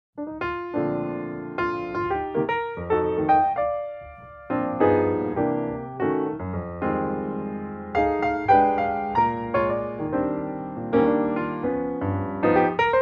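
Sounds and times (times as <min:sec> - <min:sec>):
keyboard notes and chords: 0:00.2 - 0:13.0.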